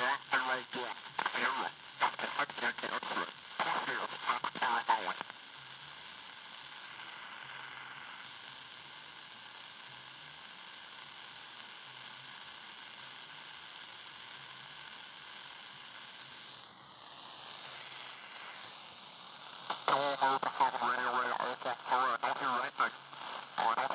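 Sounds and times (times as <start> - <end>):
radio static hiss: 0.0 - 23.9.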